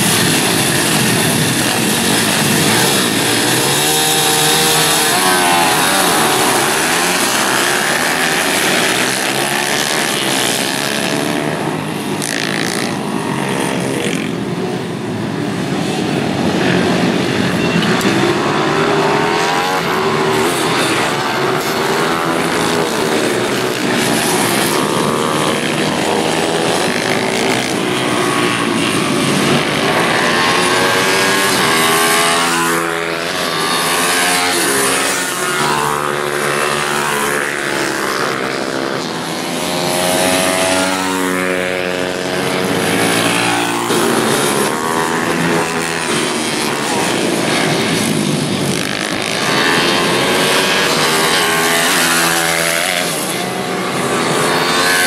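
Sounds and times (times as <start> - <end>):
minibike engines revving: 0.0 - 55.0.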